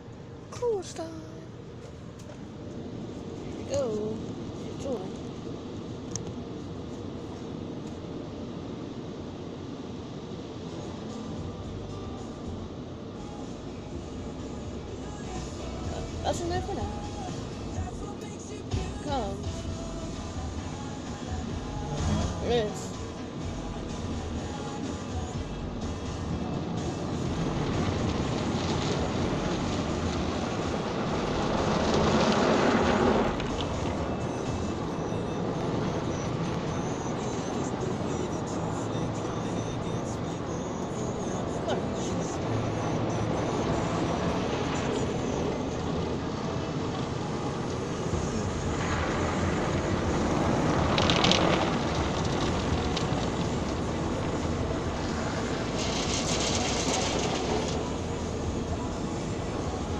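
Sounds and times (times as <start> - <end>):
water spraying against car: 1.6 - 59.9.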